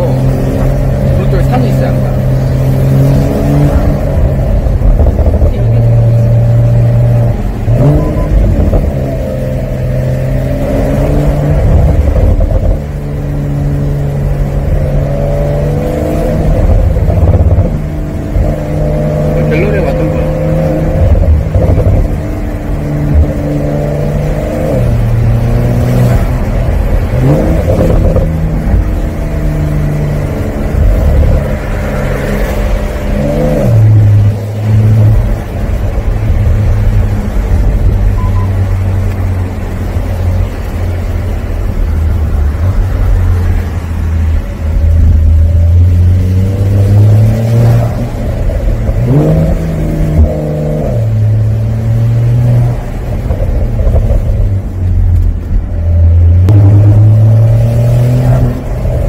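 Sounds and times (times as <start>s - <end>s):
car engine under way: 0.0s - 59.0s.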